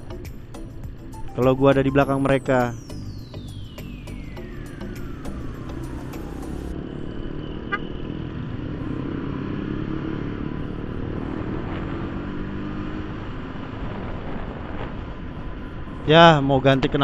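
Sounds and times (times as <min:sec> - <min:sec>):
motorcycle engine running: 0:00.0 - 0:16.1
road noise: 0:00.0 - 0:17.0.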